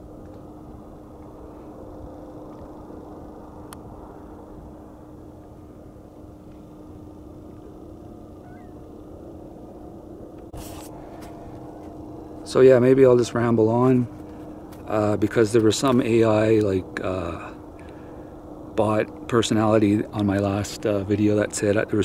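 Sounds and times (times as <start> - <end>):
electric boat motor humming: 0.0 - 22.0.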